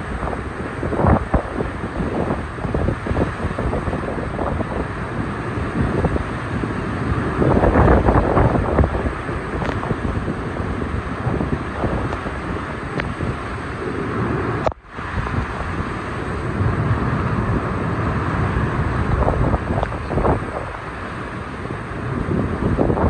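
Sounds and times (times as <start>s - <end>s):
strong wind gusting on microphone: 0.0s - 23.0s
torrential rain: 0.0s - 23.0s.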